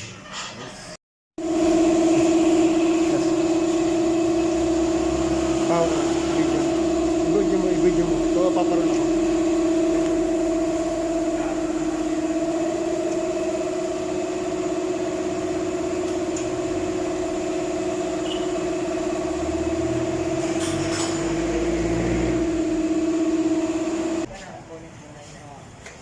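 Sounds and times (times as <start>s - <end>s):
scooter engine idling: 1.4s - 24.3s.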